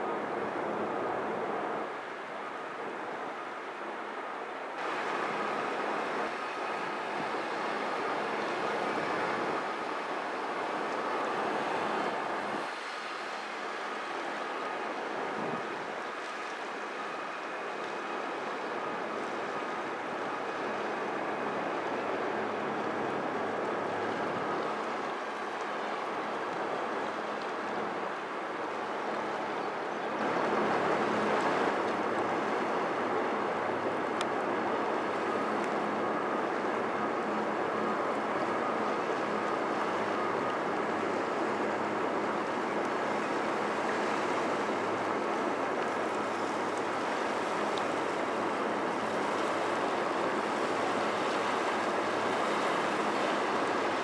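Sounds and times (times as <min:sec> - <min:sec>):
river water rushing: 0:00.0 - 0:54.0
wind: 0:00.0 - 0:54.0.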